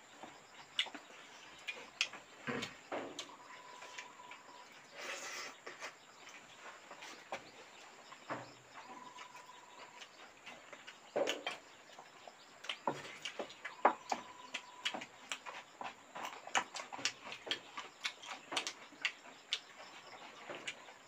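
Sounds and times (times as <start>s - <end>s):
people chewing: 0.0s - 21.0s.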